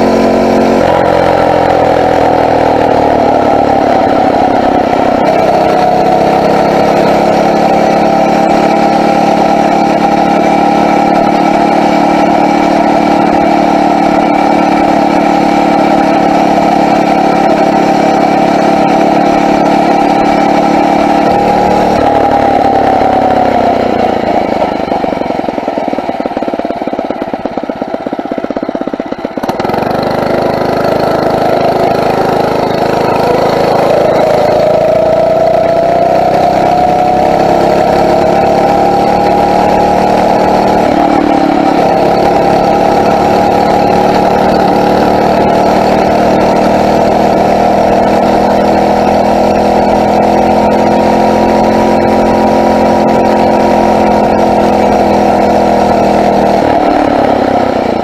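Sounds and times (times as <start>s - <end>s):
motorized bicycle engine running: 0.0s - 58.0s.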